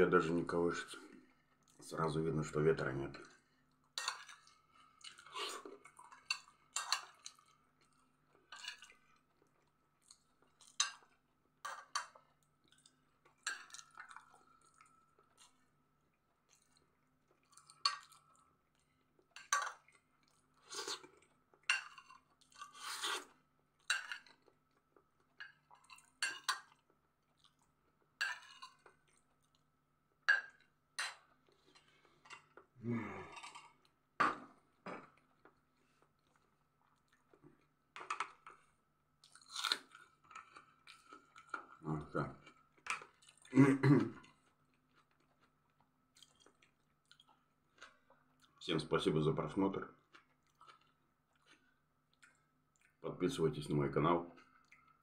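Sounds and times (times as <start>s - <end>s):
chewing soft food: 3.1s - 29.8s, 30.4s - 48.6s, 49.8s - 53.0s, 54.3s - 55.0s.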